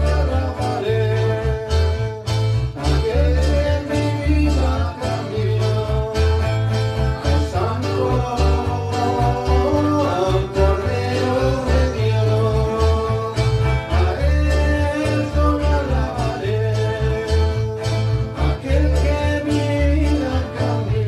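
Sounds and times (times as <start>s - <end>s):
bass line: 0.0s - 21.0s
strummed acoustic guitar: 0.0s - 21.0s.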